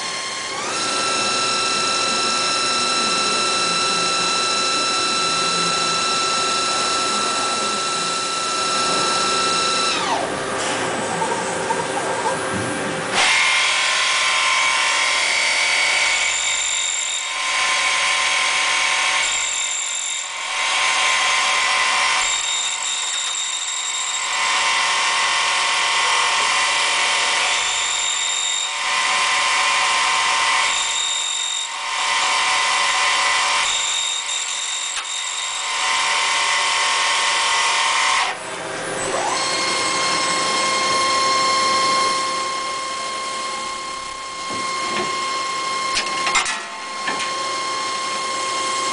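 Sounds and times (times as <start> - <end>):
lathe spindle whine: 0.0 - 48.9
metal cutting noise: 0.0 - 48.9.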